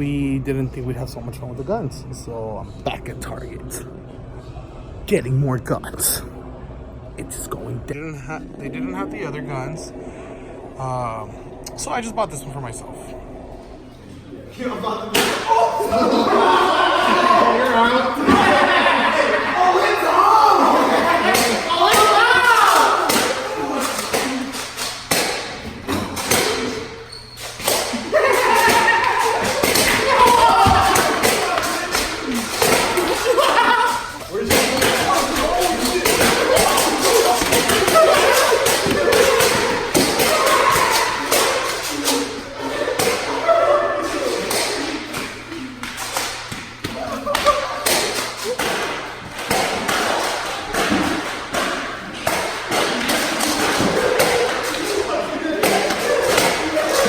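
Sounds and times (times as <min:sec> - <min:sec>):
voices: 0:00.0 - 0:57.0.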